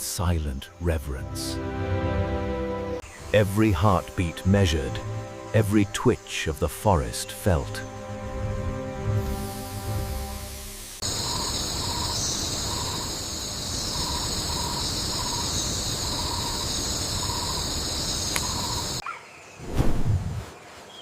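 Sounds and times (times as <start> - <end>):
insects buzzing: 0.0 - 19.6.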